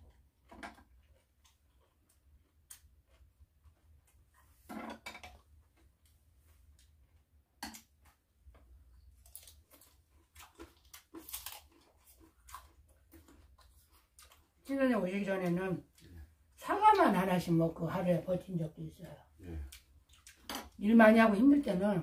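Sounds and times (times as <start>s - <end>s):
soft chewing: 0.0s - 4.7s, 5.3s - 16.6s, 18.8s - 20.8s.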